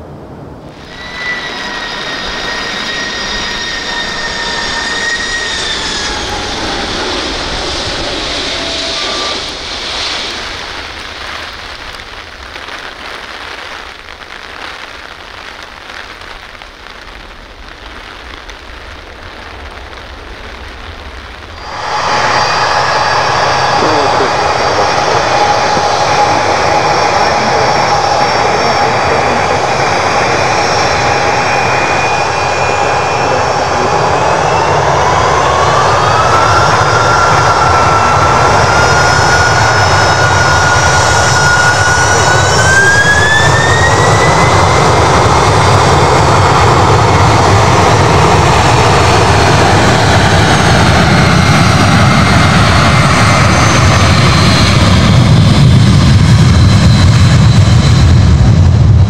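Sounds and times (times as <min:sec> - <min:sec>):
jet engine fan whine: 0:00.0 - 0:12.4, 0:19.6 - 0:59.0
low rumble of takeoff roll: 0:00.0 - 0:59.0.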